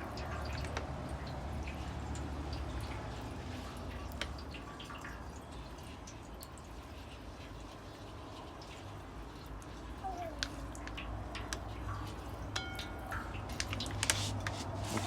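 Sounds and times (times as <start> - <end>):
liquid dripping and trickling: 0.0 - 15.0.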